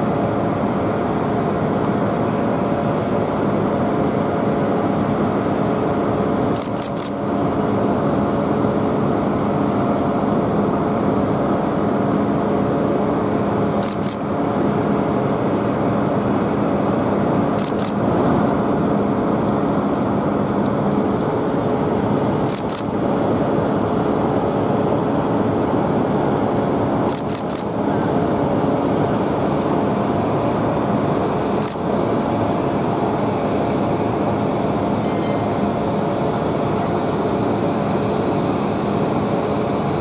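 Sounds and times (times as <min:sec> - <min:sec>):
jet engines roaring: 0:00.0 - 0:40.0.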